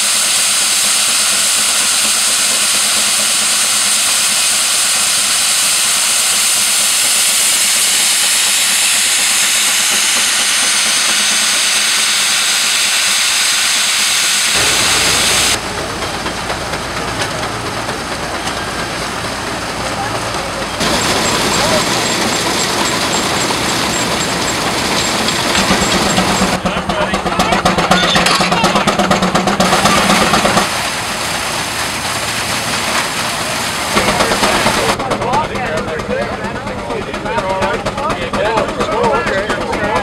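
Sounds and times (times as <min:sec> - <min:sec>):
steam hissing: 0:00.0 - 0:35.0
machinery running: 0:00.0 - 0:40.0.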